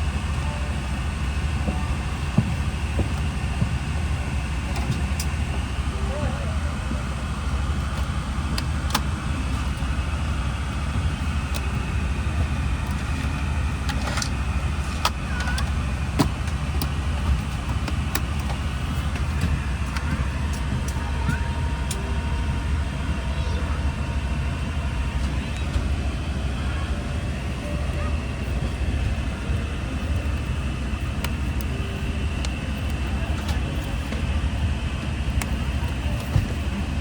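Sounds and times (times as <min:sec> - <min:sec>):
airliner cabin rumble: 0:00.0 - 0:37.0.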